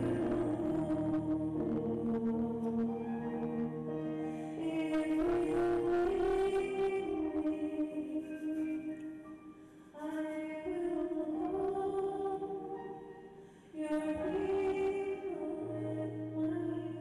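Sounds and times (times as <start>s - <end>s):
woman singing a slow hymn: 0.0s - 9.3s, 9.9s - 12.9s, 13.8s - 17.0s.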